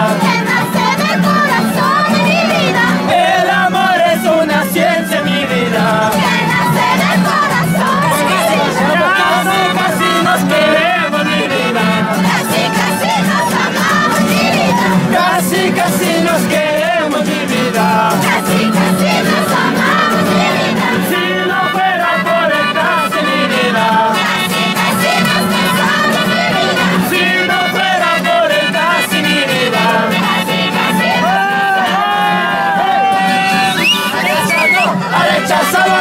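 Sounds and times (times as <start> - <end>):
crowd: 0.0 - 36.0
men singing and shouting: 0.0 - 36.0
strummed acoustic guitars: 0.0 - 36.0
melodica playing: 0.1 - 16.2, 17.2 - 36.0.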